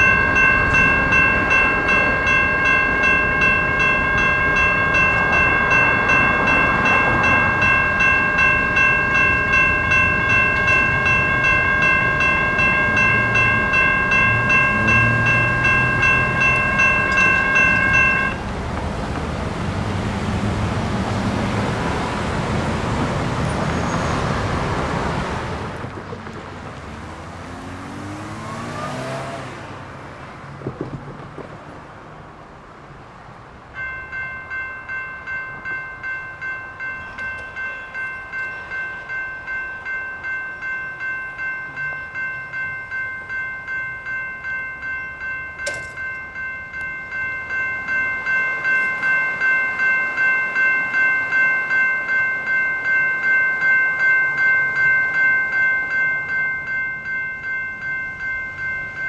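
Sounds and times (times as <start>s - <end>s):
crossing bells ringing: 0.0s - 31.0s, 33.6s - 59.0s
freight train rushing: 0.0s - 59.0s
road traffic: 0.0s - 59.0s.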